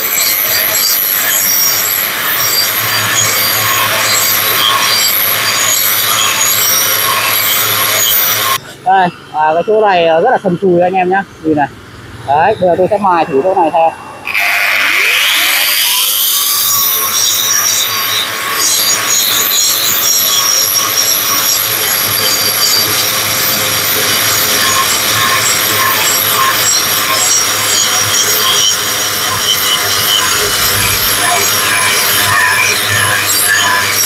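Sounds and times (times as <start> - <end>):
wall chaser grinding concrete: 0.0 - 11.6, 12.3 - 34.0.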